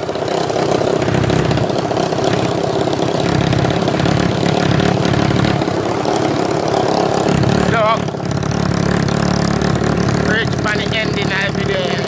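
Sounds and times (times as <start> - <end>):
small go-kart engine running: 0.0 - 12.0.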